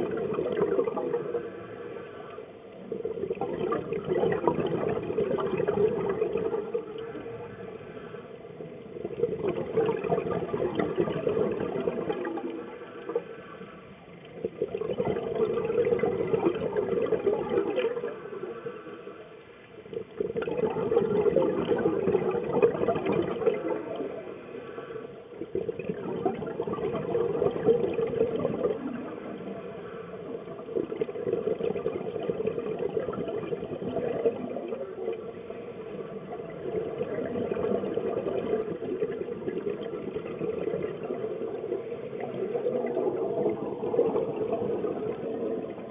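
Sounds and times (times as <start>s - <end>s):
underwater bubbles gurgling: 0.0s - 45.9s.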